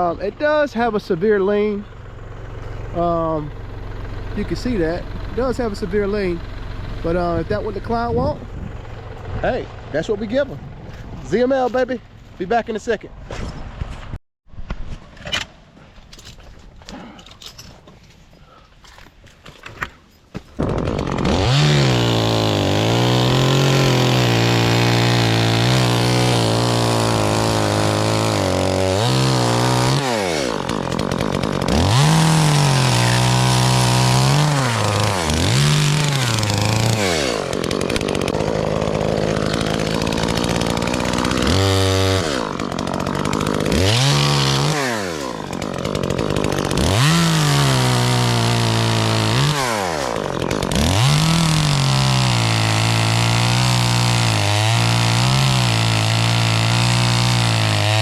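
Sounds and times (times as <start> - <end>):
chainsaw revving: 0.0 - 11.7, 20.6 - 58.0.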